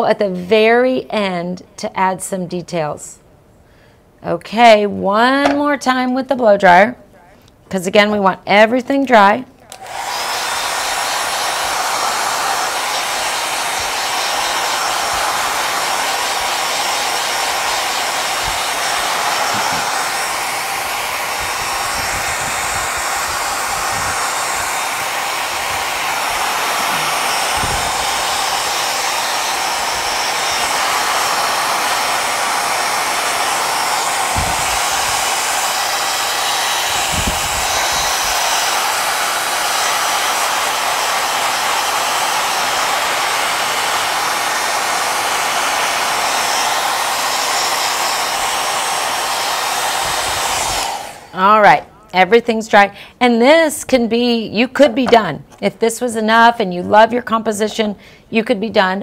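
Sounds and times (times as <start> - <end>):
hair dryer blowing: 4.6 - 6.2, 8.0 - 53.1, 54.3 - 55.5.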